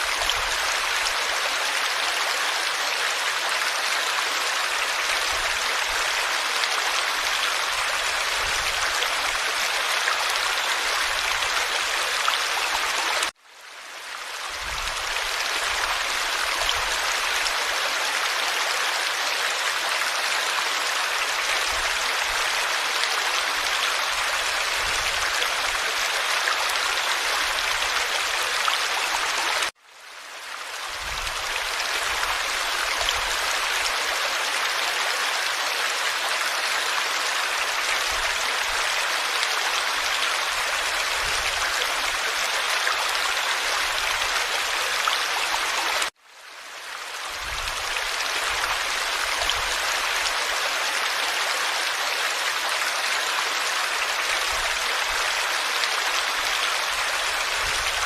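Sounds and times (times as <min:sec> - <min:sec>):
stream rushing and babbling: 0:00.0 - 0:58.0.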